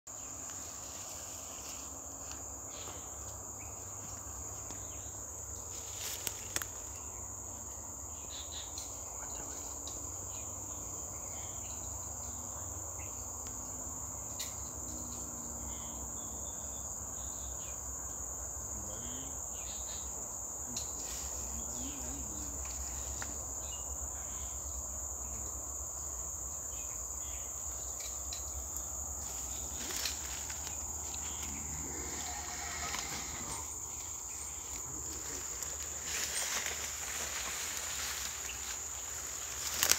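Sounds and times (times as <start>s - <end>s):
high-pitched insect drone: 0.1s - 39.9s.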